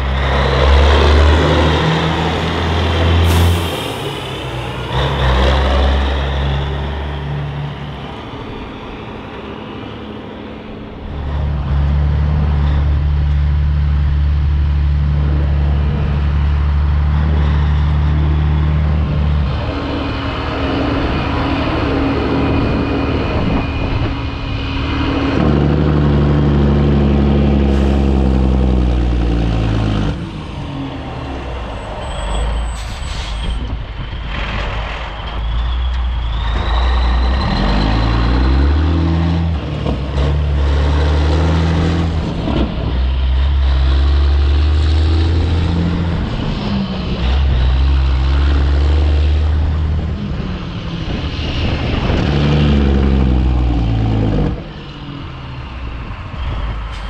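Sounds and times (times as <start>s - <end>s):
truck diesel engine shifting gears: 0.0s - 57.0s.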